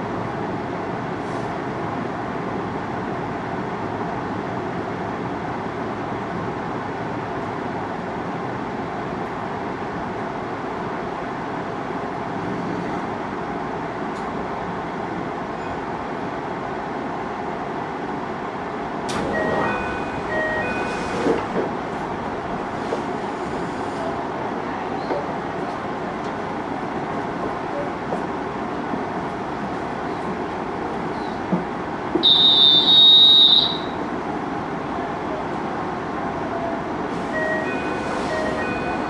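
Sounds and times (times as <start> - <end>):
train rumbling and braking: 0.0 - 39.0.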